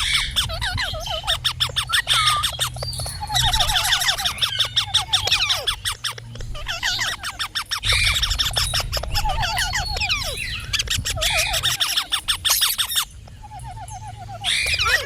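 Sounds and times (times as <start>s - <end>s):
parrots squawking and chirping: 0.0s - 15.0s.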